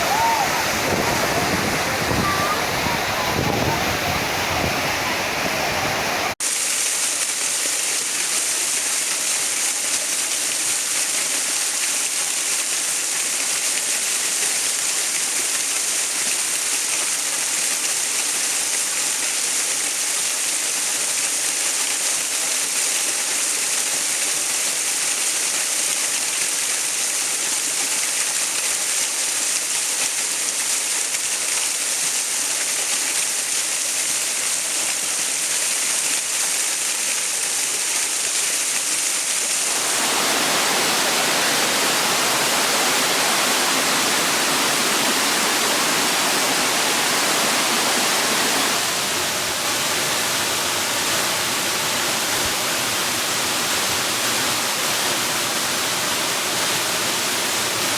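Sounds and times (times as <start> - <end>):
rushing falling water: 0.0 - 57.9.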